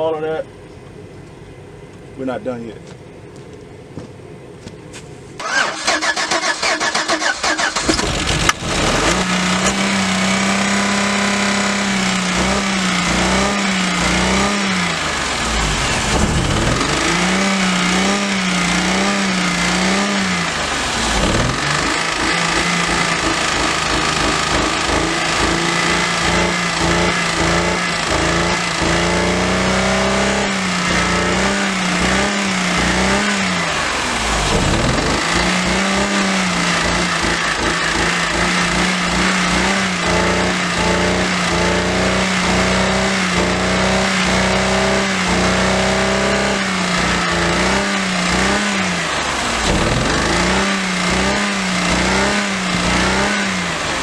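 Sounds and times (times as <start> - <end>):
car engine revving high: 5.4 - 54.0.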